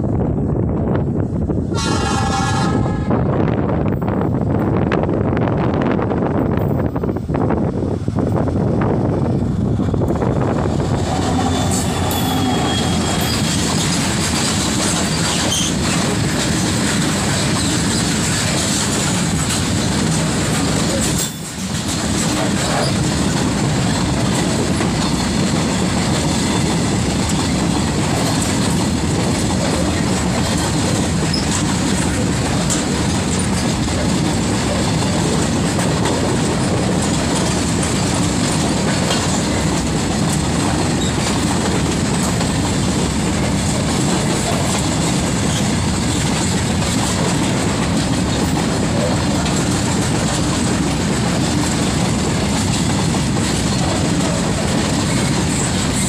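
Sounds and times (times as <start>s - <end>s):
diesel locomotive: 0.0s - 56.0s
train wheels clacking over rails: 8.2s - 56.0s.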